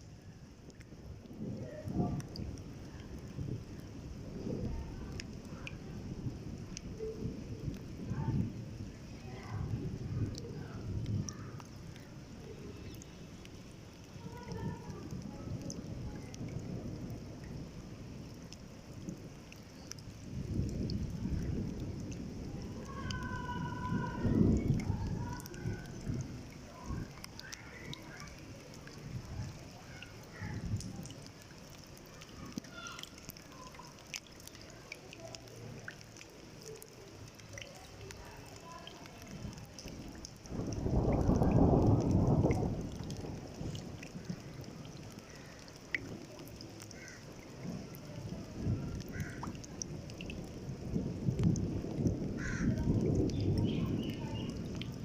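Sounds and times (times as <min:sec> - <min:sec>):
rain: 0:00.0 - 0:55.0
water drips: 0:00.0 - 0:55.0
thunder rumbling: 0:00.3 - 0:31.6, 0:37.9 - 0:55.0.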